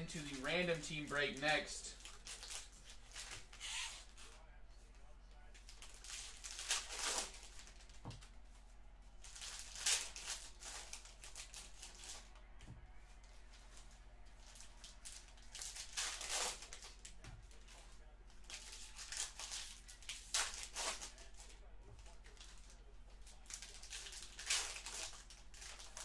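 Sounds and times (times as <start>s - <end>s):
plastic packaging crinkling and tearing: 0.1s - 4.4s, 5.4s - 8.0s, 9.2s - 12.3s, 14.4s - 26.0s.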